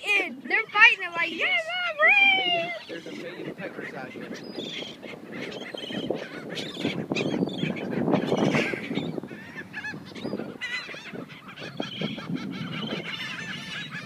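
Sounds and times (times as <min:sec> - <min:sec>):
seagulls squawking: 0:00.0 - 0:14.0.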